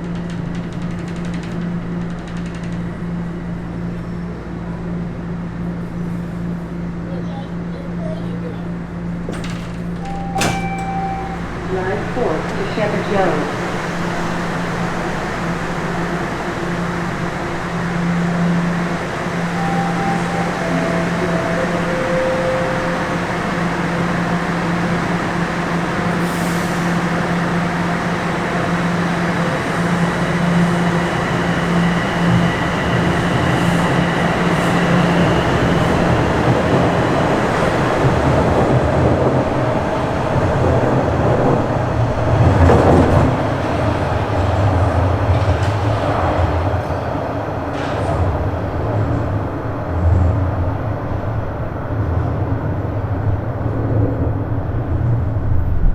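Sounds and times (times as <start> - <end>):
train motor hum: 0.0 - 49.5
train wheels rumbling on rails: 0.0 - 55.9.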